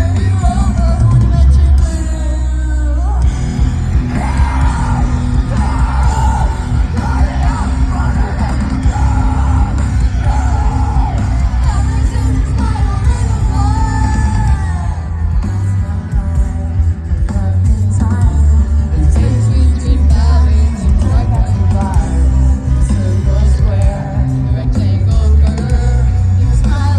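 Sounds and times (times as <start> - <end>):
rock band playing live: 0.0 - 26.9
vocalist singing and yelling: 0.0 - 26.9.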